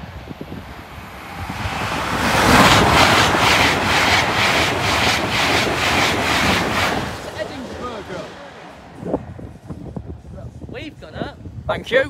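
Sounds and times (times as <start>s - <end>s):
high-speed train passing: 0.0s - 11.5s.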